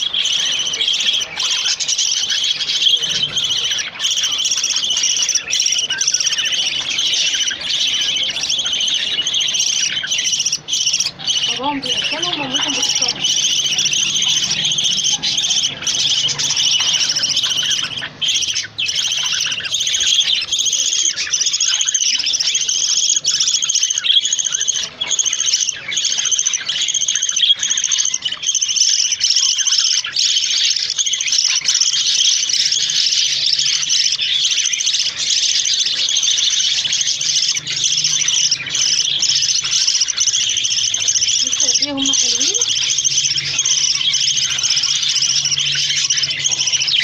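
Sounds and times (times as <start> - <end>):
cage birds chirping: 0.0 - 47.0.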